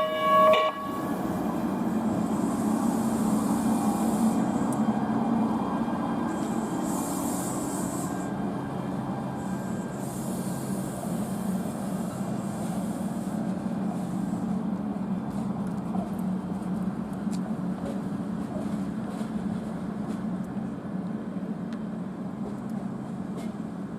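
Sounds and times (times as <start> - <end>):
light rail train humming: 0.0 - 23.9.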